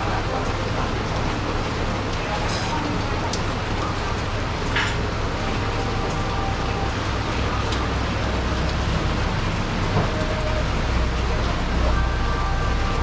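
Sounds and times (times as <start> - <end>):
rain hiss: 0.0 - 13.0
traffic on wet road: 0.0 - 13.0.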